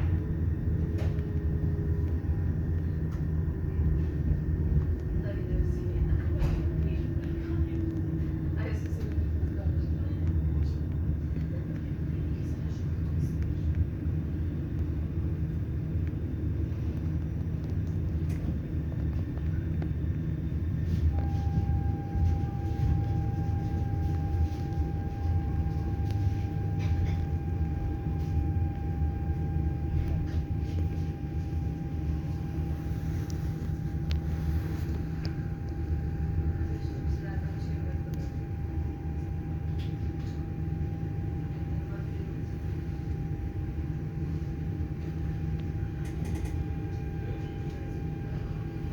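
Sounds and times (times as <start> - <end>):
thin steady whine: 0.0 - 48.9
train rumbling on track: 0.0 - 48.9.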